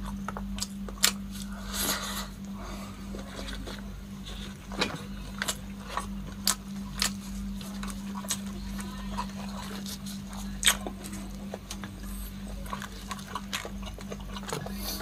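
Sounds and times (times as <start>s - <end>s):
wet chewing and lip-smacking: 0.0s - 1.6s, 2.4s - 15.0s.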